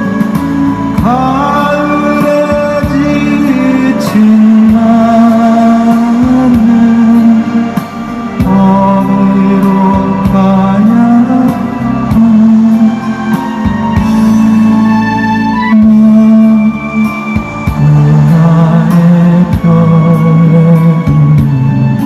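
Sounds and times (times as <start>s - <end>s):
slow live song: 0.0s - 22.0s.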